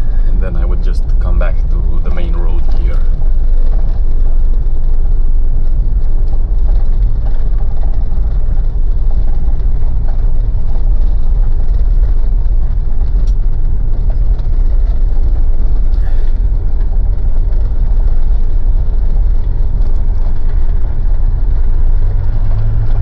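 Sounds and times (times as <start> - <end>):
diesel engine and tyres rumbling: 0.0 - 23.0.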